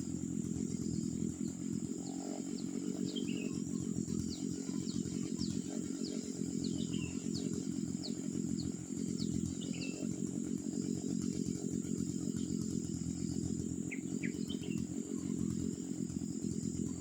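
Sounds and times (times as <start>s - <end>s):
birds chirping: 0.0s - 17.0s
brush cutter engine running: 0.0s - 17.0s
high insect buzz: 0.0s - 17.0s.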